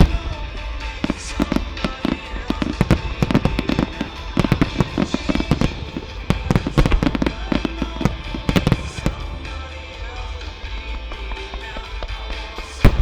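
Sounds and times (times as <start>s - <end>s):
fireworks bangs and crackles: 0.0s - 13.0s
music: 0.0s - 13.0s.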